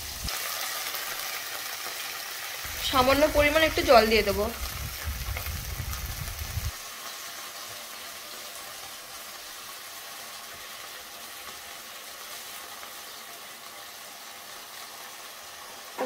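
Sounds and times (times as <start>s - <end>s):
curry sizzling and bubbling: 0.0s - 16.0s.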